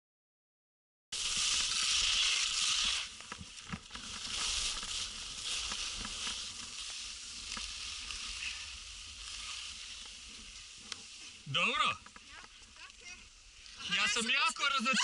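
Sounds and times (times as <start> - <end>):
skis scraping over snow: 1.2 - 15.0.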